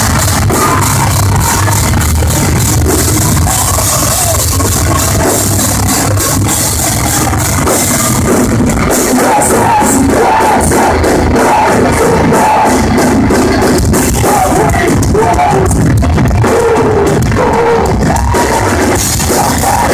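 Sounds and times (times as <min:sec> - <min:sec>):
heavy guitars: 0:00.0 - 0:19.9
metalcore band playing loud: 0:00.0 - 0:19.9
pounding drums: 0:00.0 - 0:19.9
sung and shouted vocals: 0:00.0 - 0:19.9.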